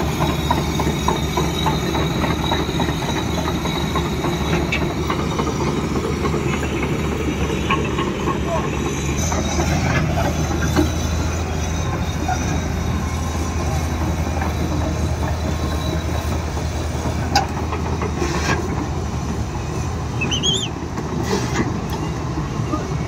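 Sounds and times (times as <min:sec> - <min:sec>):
excavator diesel drone: 0:00.0 - 0:23.0
steel tracks clattering: 0:00.0 - 0:23.0.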